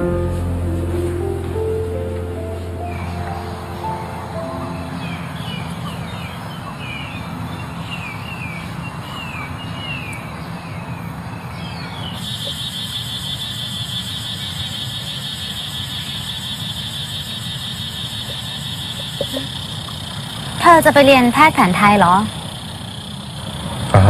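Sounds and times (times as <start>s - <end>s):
birds chirping: 0.0s - 23.5s
distant traffic rumble: 0.0s - 24.0s.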